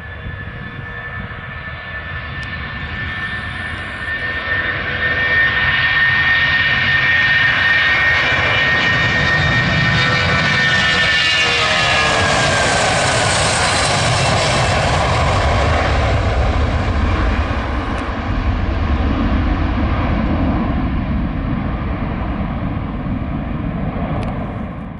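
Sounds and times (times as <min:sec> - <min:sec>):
jet engines roaring: 0:00.0 - 0:24.9.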